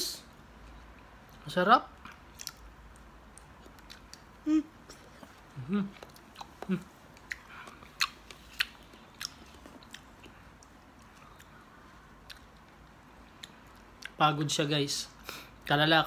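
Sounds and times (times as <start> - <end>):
child chewing with wet smacks: 0.5 - 14.2.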